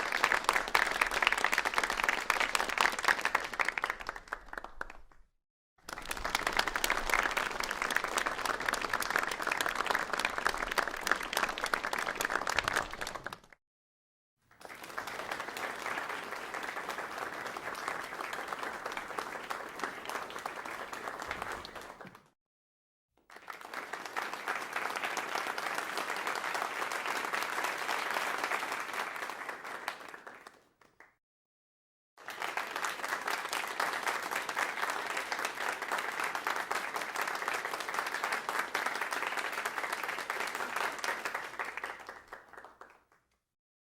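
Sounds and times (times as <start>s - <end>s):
crowd applause: 0.0s - 5.1s, 5.9s - 13.5s, 14.5s - 22.3s, 23.3s - 30.7s, 32.2s - 43.0s.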